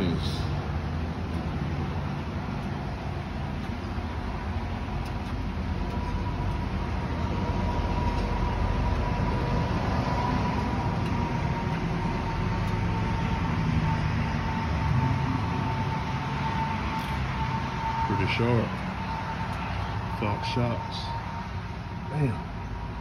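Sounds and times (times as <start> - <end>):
low mechanical rumble: 0.0 - 23.0
thin steady whine: 0.0 - 23.0.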